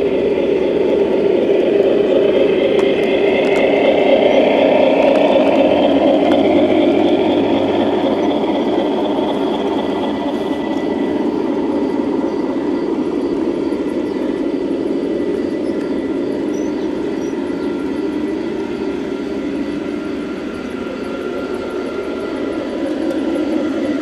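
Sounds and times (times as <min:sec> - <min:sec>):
model train wheels rumbling on rails: 0:00.0 - 0:24.0.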